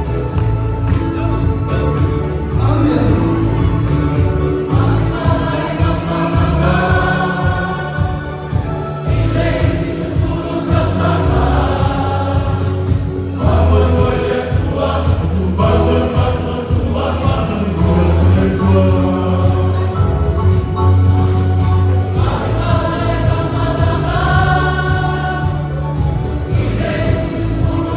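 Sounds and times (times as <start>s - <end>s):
choir singing gospel song: 0.0s - 27.9s
instrumental backing: 0.0s - 27.9s
steady bass line: 0.0s - 27.9s.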